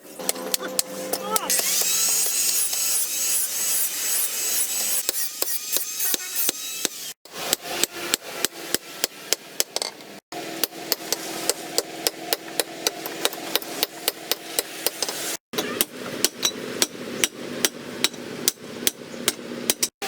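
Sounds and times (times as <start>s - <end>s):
hammer striking metal: 0.2s - 9.8s, 10.6s - 20.0s.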